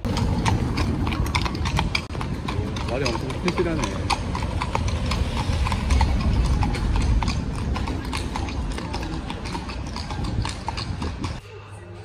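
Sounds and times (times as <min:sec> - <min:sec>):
horse hooves clip-clopping: 0:00.0 - 0:11.4
low rumble: 0:00.0 - 0:11.4.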